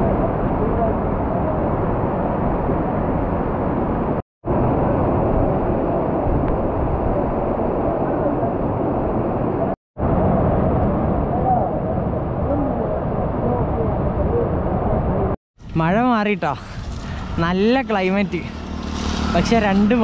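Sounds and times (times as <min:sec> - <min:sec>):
strong wind on microphone: 0:00.0 - 0:17.7.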